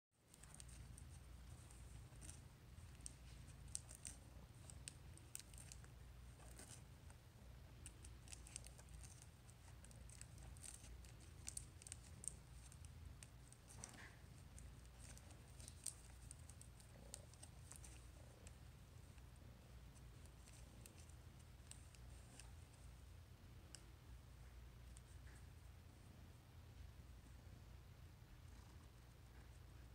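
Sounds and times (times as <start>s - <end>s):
low steady hum: 0.2s - 29.9s.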